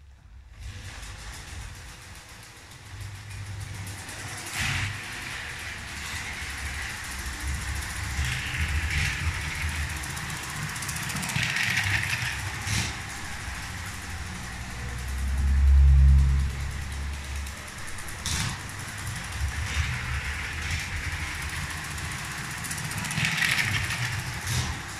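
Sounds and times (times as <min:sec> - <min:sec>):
toy train motor hum and rumble: 0:00.0 - 0:24.9.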